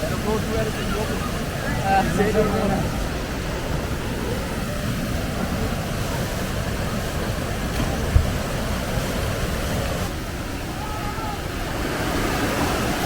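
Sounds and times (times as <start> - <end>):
waterfall rushing: 0.0 - 13.0
wind buffeting microphone: 0.0 - 13.0.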